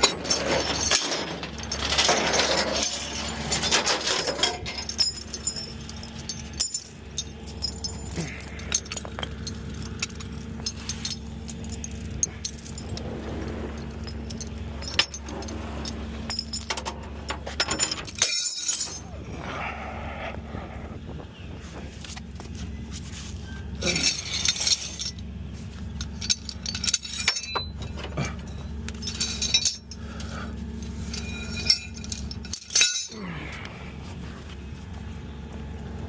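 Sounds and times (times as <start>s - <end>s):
metallic clinks and rattles: 0.0s - 19.4s, 22.0s - 33.7s
truck engine running: 0.0s - 36.0s.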